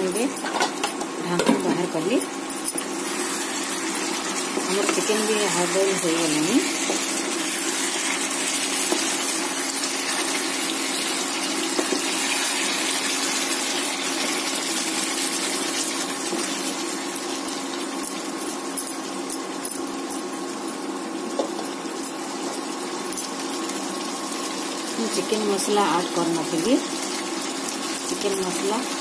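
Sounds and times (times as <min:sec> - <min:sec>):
curry sizzling in a pan: 0:02.8 - 0:29.0.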